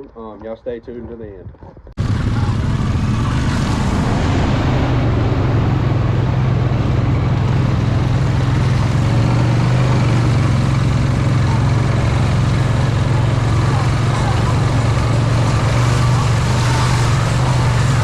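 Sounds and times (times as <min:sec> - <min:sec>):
atv engine revving high: 0:02.0 - 0:18.0.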